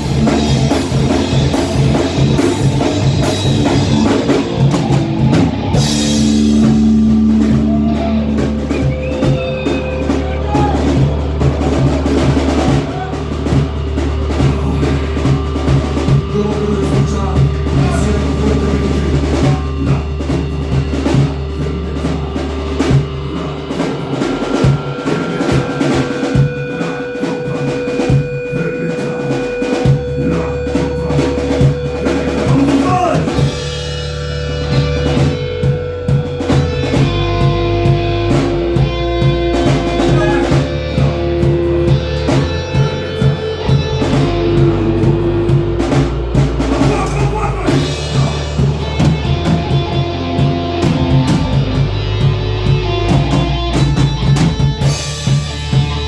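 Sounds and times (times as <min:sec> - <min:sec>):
bass guitar: 0:00.0 - 0:56.0
electric guitars: 0:00.0 - 0:56.0
pounding drum kit: 0:00.0 - 0:56.0.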